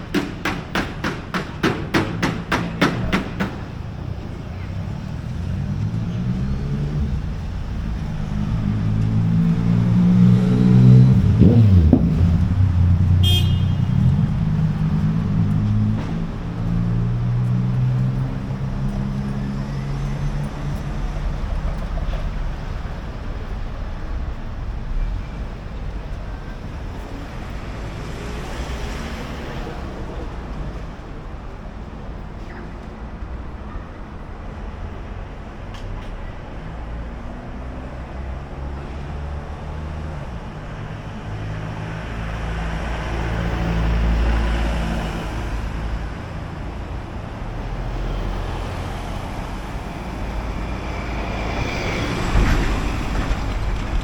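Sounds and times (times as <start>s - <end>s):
vehicles passing: 0.0s - 54.0s
vehicle passing with deep rumble: 3.6s - 32.3s, 36.6s - 54.0s.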